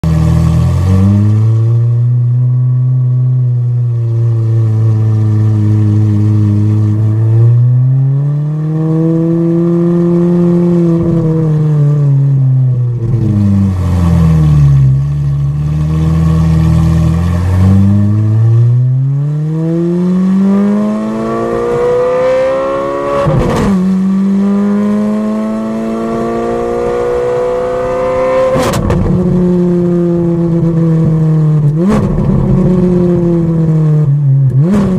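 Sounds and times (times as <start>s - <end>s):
sports car engine revving: 0.1s - 34.9s.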